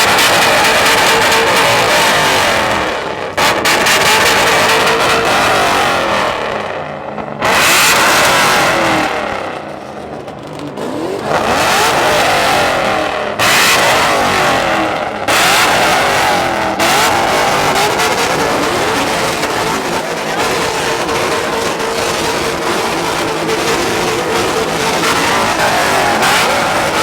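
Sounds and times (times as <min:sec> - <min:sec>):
car engines revving hard: 0:00.0 - 0:27.0.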